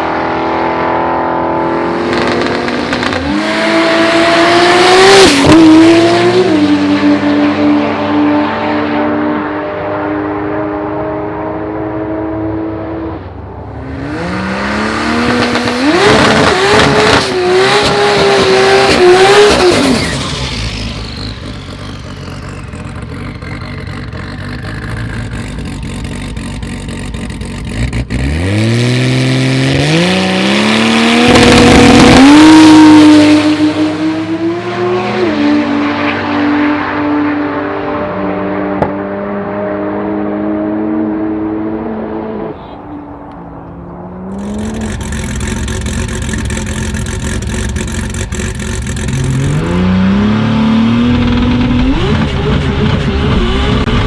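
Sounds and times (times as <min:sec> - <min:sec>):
drag car engine at full throttle: 0:00.0 - 0:54.0.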